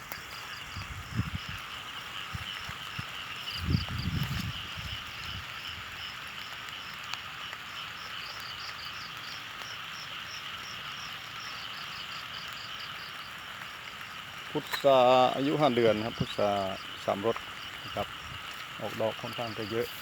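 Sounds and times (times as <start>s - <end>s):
frogs and insects trilling: 0.0s - 20.0s.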